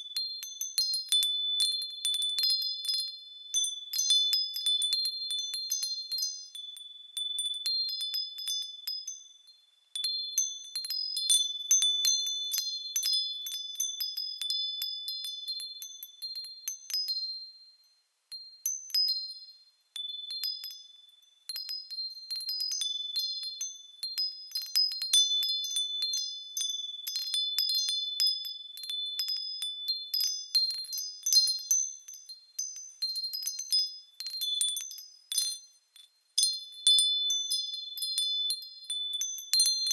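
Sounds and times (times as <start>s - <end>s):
small bells tinkling: 0.0s - 39.9s.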